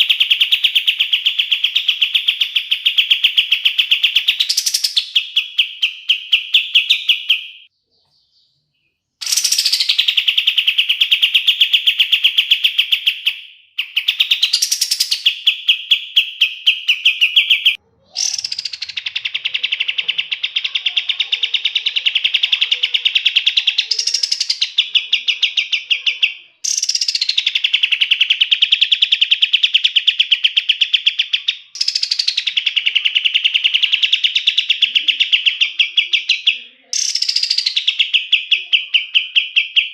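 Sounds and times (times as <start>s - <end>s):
songbird singing rolling trills: 0.0s - 39.9s.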